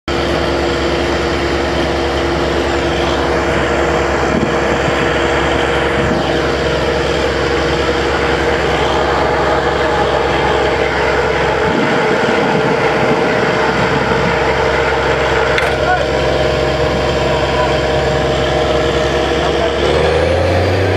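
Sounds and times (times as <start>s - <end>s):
drilling rig engine drone: 0.1s - 20.9s.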